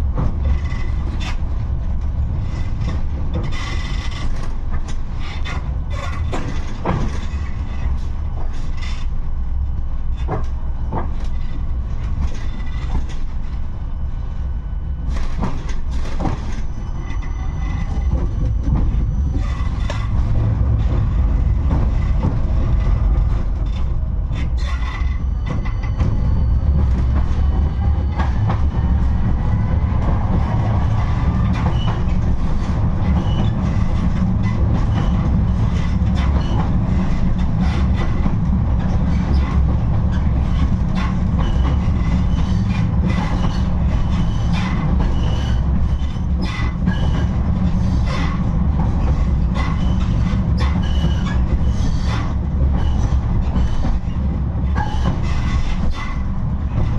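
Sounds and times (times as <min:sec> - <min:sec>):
tram rumbling along track: 0:00.0 - 0:56.9.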